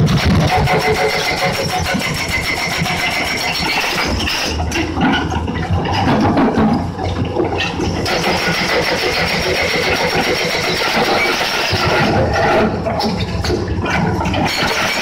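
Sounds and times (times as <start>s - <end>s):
hydraulic rock breaker hammering: 0.0s - 6.8s, 7.4s - 15.0s.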